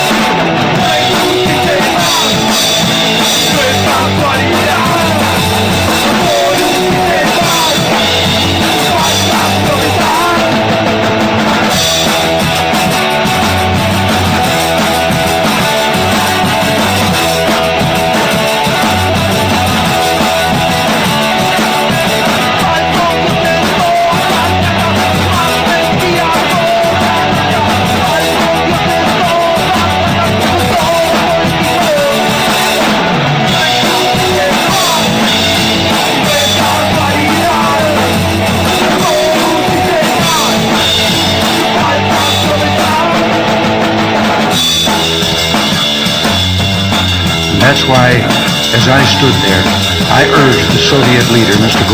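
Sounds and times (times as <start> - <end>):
rock music with guitar: 0.0 - 51.9.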